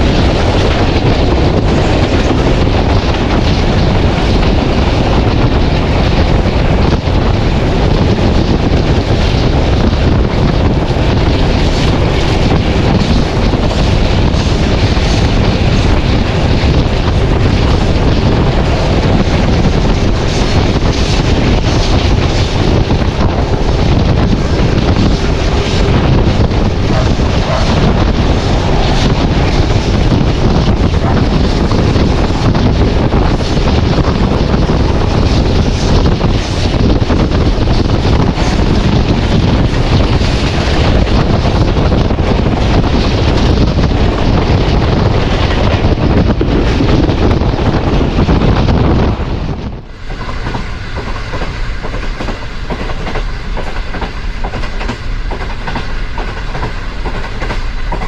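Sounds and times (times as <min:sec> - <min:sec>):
diesel train rushing: 0:00.0 - 0:58.0
wind buffeting microphone: 0:00.0 - 0:58.0.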